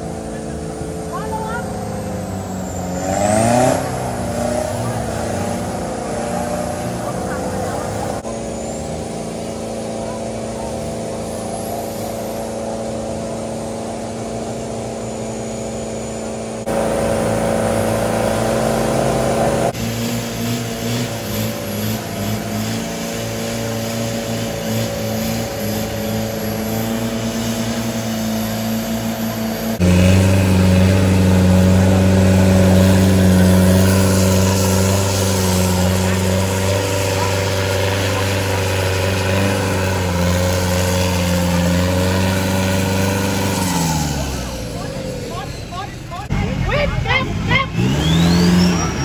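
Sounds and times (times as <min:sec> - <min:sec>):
off-road vehicle engine under load: 0:00.0 - 0:49.0.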